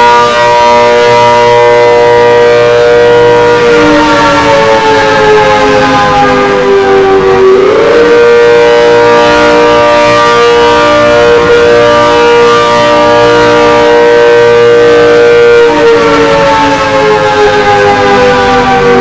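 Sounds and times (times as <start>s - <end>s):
wailing civil defense siren: 0.0s - 19.0s.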